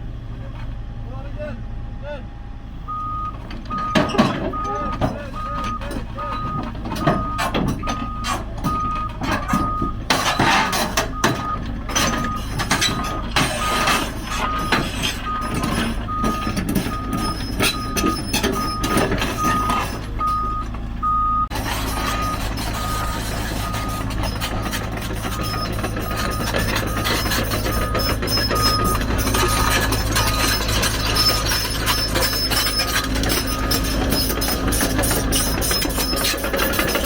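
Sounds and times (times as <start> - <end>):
diesel engine running: 0.0 - 37.0
metallic clanks and rattles: 2.8 - 37.0
reversing alarm beeping: 2.9 - 37.0.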